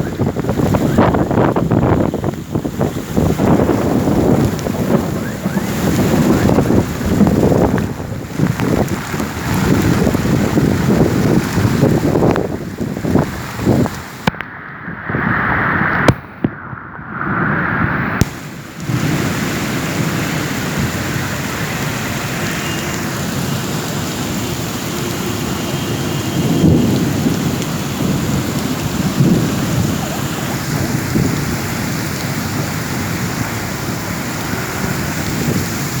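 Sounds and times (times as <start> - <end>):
heavy rain pouring: 0.0 - 14.5, 18.2 - 36.0.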